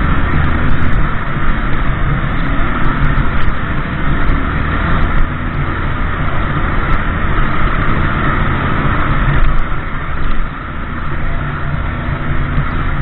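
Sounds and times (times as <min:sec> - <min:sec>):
motorbike engine hum: 0:00.0 - 0:13.0
road noise: 0:00.0 - 0:13.0.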